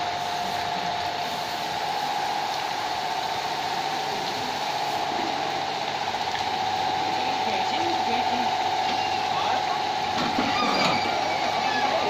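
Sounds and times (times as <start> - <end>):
motor idling with whine: 0.0 - 12.0.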